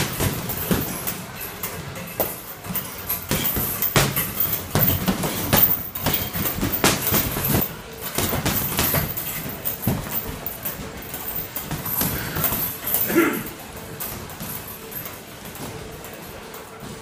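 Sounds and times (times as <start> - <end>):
boxing gloves punching heavy bag: 0.0 - 17.0.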